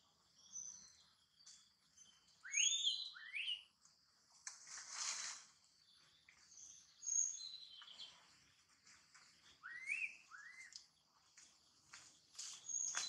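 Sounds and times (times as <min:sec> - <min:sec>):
forest birds calling: 0:00.0 - 0:03.9, 0:05.6 - 0:13.0.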